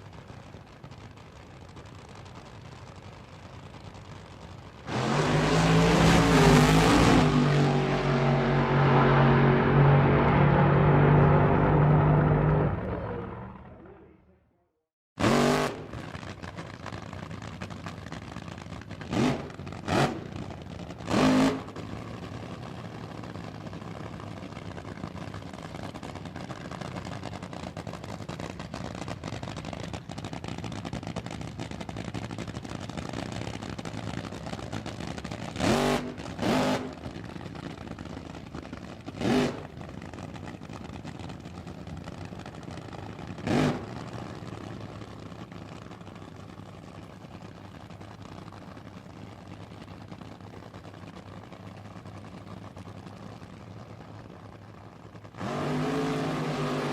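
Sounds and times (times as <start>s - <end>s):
car engine idling and revving: 1.6s - 14.2s, 15.2s - 56.9s.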